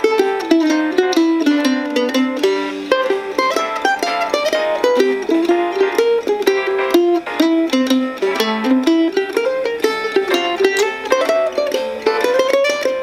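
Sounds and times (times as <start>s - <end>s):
mandolin playing fast jazz line: 0.0s - 13.0s.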